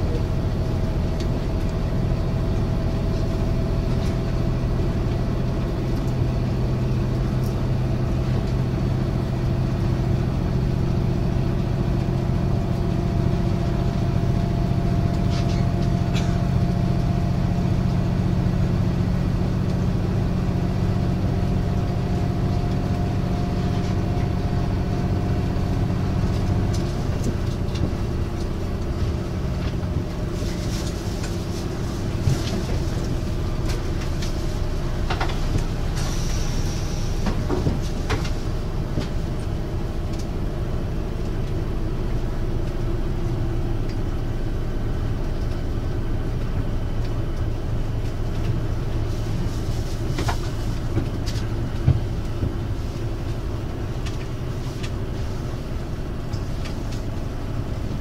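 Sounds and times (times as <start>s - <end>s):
diesel engine droning: 0.0s - 58.0s
wheels rumbling on track: 0.0s - 58.0s.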